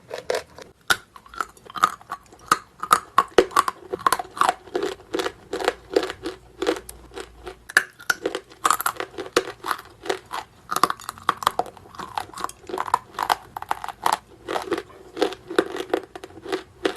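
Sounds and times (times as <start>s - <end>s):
crisp chewing crunches: 0.0s - 16.9s.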